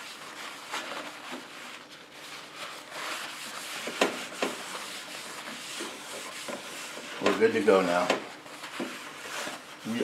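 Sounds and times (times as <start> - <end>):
paper towel wiping a griddle: 0.0 - 10.0.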